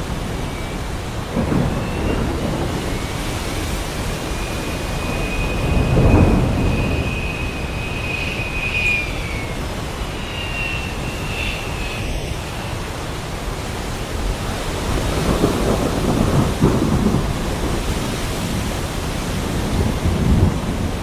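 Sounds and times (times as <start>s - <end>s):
heavy rain: 0.0s - 21.0s
thunder rumbling: 0.0s - 21.0s.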